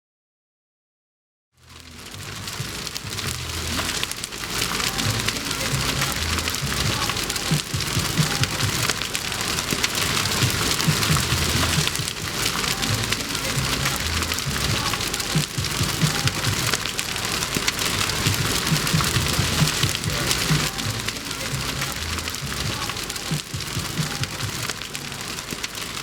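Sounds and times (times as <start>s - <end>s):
bonfire crackling: 1.6s - 26.0s.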